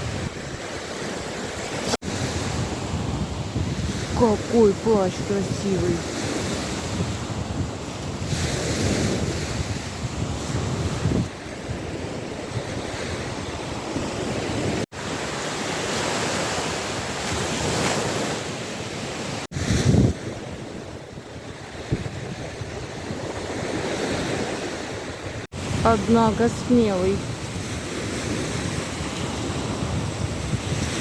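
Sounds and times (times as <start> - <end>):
wind buffeting microphone: 0.0 - 14.8, 19.5 - 31.0
waves washing on shore: 0.0 - 31.0.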